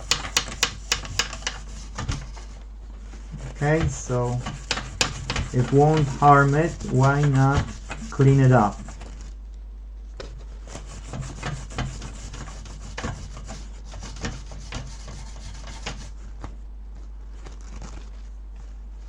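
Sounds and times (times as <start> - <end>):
scrubbing a circuit board: 0.0 - 9.4, 10.2 - 16.5.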